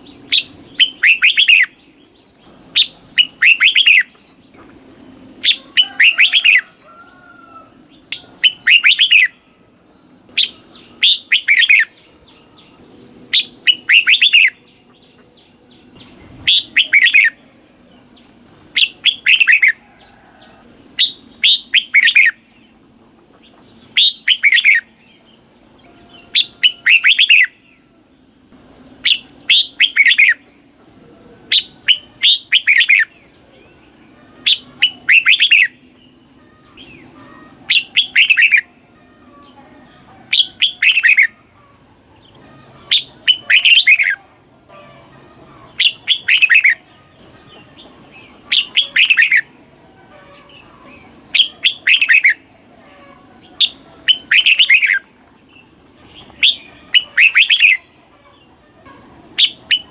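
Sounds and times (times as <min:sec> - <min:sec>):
bird singing chirpy phrases: 0:00.0 - 0:19.8, 0:20.7 - 0:59.9.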